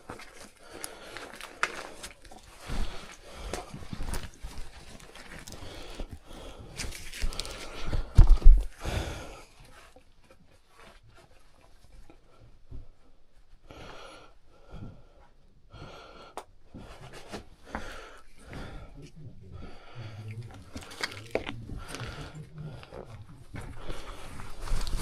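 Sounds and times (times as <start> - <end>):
person breathing hard: 0.0 - 10.0, 12.2 - 25.0.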